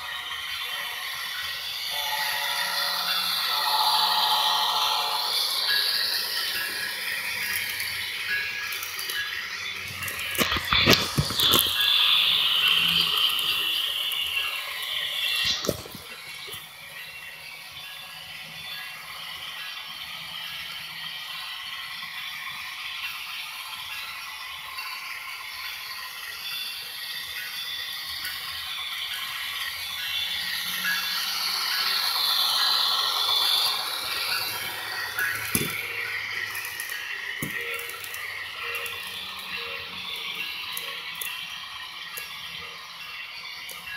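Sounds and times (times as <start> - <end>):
model train wheels clattering: 0.0 - 43.9.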